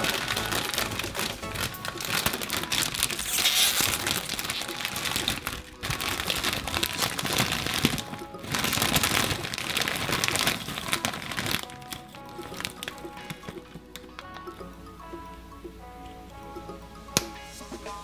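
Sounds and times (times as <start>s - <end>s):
foil snack bag crinkling: 0.0s - 14.6s.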